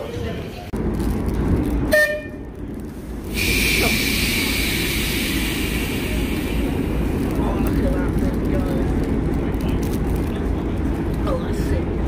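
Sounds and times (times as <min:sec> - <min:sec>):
diesel locomotive engine running low: 0:00.0 - 0:12.0.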